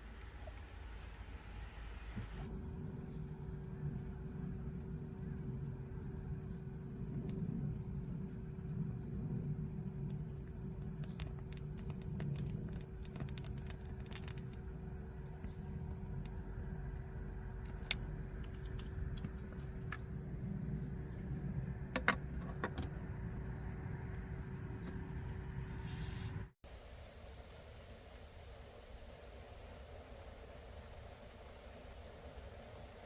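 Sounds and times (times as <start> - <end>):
low rumble of traffic: 0.0 - 26.8.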